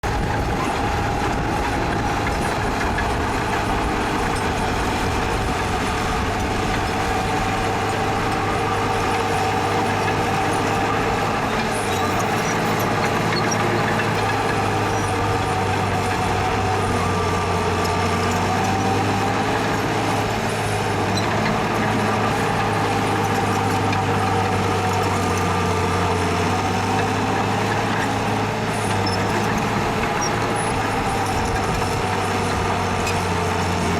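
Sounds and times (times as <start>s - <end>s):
heavy diesel machinery running: 0.0s - 33.9s.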